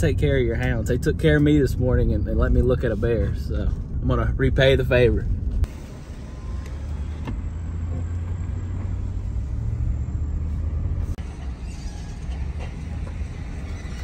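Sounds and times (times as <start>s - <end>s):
truck engine and tyres rumbling: 0.0s - 14.0s.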